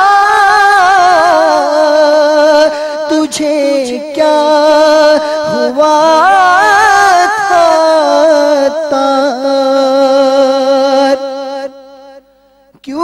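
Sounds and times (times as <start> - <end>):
man singing wordless melisma: 0.0 - 13.0.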